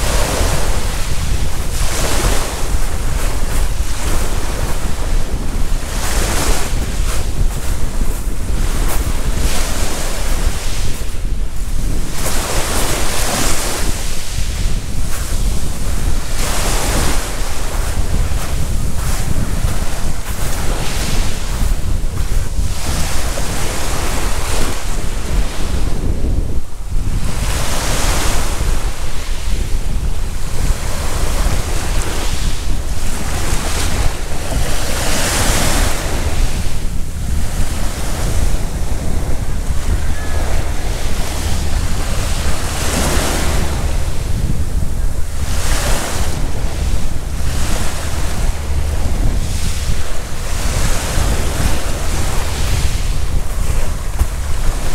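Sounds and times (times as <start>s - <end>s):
waves washing on gravel beach: 0.0s - 54.9s
wind buffeting microphone: 0.0s - 54.9s.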